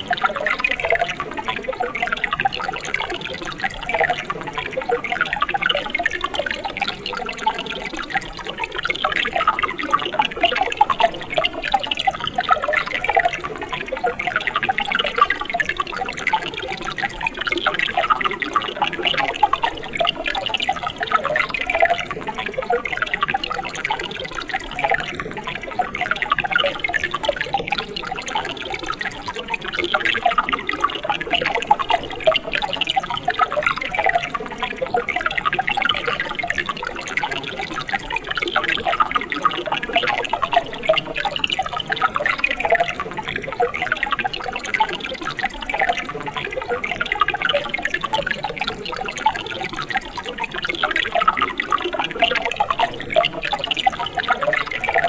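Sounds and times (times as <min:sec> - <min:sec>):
stream burbling over rocks: 0:00.0 - 0:55.0.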